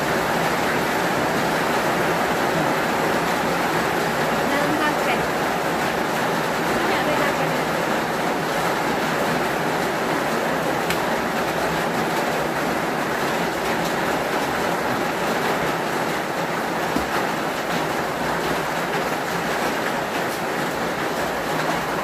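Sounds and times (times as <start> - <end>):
heavy rain on a roof: 0.0 - 22.0.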